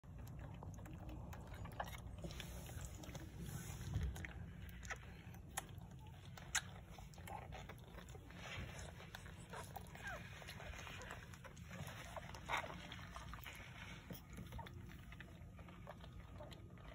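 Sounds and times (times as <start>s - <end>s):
puppies suckling: 0.0s - 16.9s
rustling: 2.1s - 16.9s.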